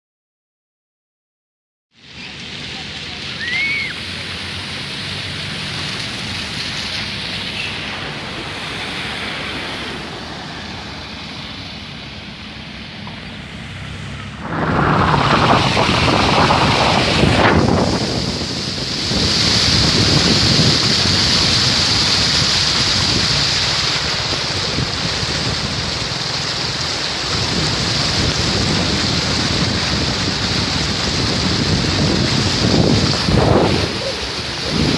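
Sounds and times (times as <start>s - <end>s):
steady rain: 2.0s - 34.9s.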